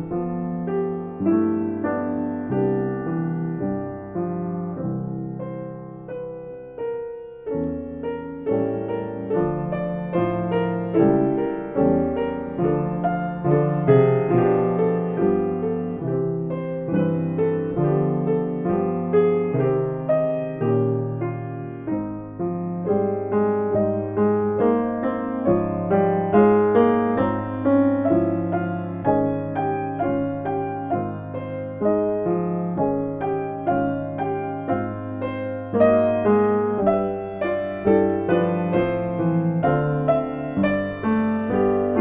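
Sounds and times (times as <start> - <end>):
solo piano playing slow piece: 0.0 - 42.0.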